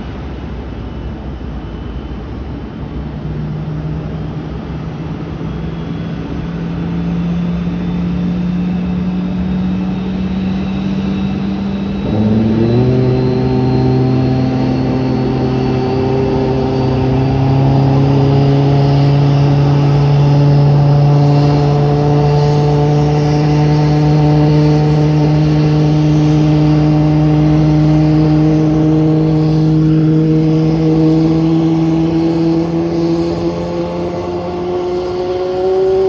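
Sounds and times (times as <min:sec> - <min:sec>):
aircraft engine hum: 0:00.0 - 0:36.0
faint high whine: 0:00.0 - 0:36.0.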